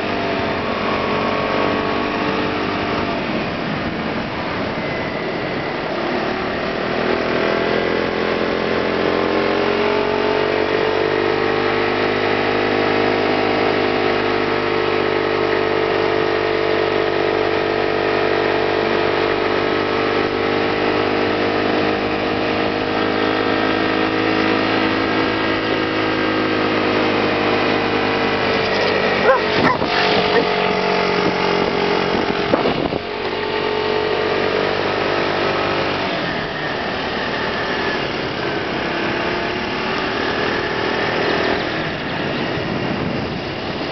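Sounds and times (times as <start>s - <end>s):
motor scooter engine cruising: 0.0s - 43.9s
wind and road noise: 0.0s - 43.9s.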